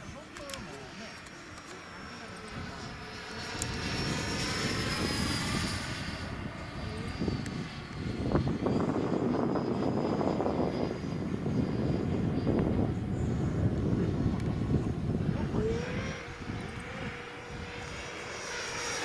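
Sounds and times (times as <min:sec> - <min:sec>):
model jet motor whine: 0:00.0 - 0:19.0.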